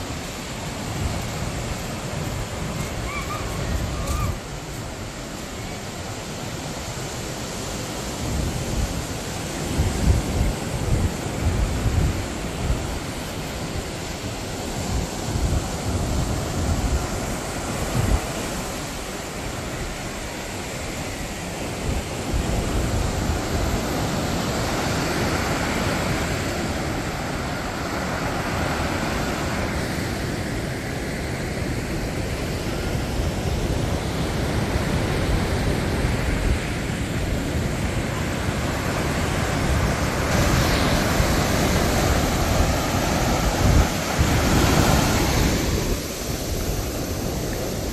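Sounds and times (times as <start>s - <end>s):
wind buffeting microphone: 0.0s - 30.8s, 32.2s - 47.9s
surf breaking on beach: 6.1s - 47.9s.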